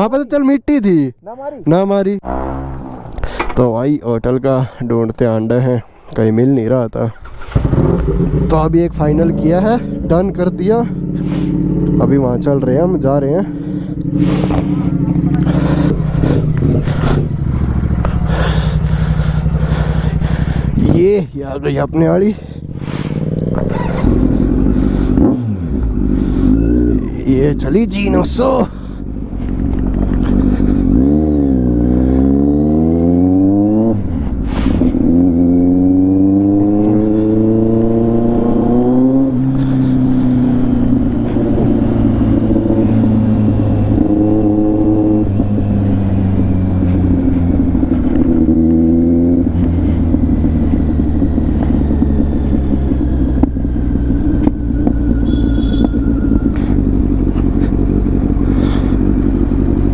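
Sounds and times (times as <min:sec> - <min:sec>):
road and wind rush: 0:00.0 - 0:59.9
motorcycle engine accelerating: 0:02.2 - 0:03.7, 0:06.9 - 0:59.9.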